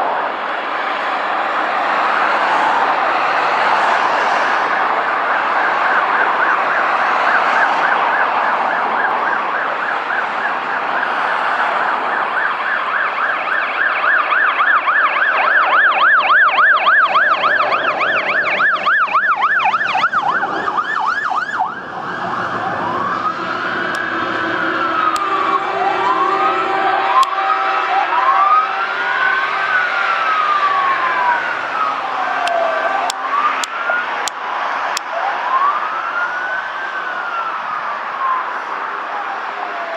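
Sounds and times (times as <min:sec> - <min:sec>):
fire engine sirens yelping: 0:00.0 - 0:39.9
siren wail: 0:00.0 - 0:39.9.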